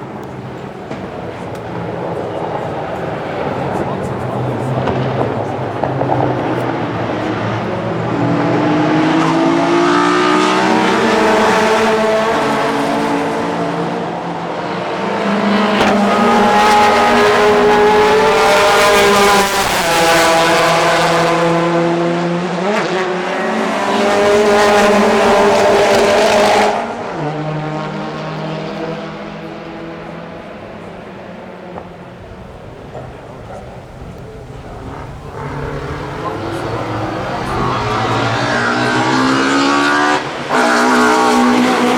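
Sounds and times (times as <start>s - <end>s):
racing cars passing: 0.0s - 41.9s.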